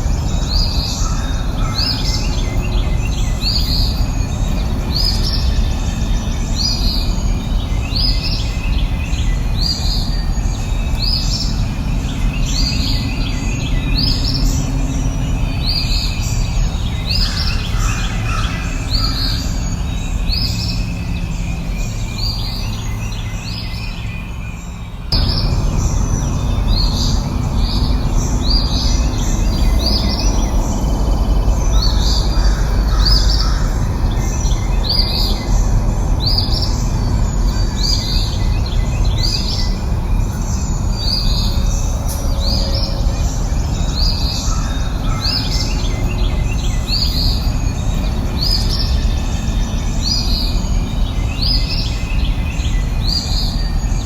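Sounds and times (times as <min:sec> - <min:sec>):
low rumbling background: 0:00.0 - 0:54.0.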